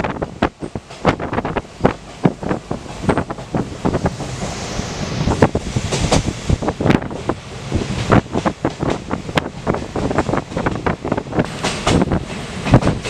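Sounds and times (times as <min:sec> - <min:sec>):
train knocks and rattles: 0:00.0 - 0:13.0
wind buffeting microphone: 0:00.0 - 0:13.0.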